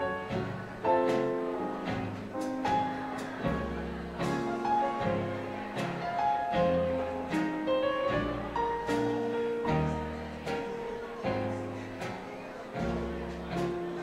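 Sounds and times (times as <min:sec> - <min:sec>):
dance band playing slow ballad: 0:00.0 - 0:14.0.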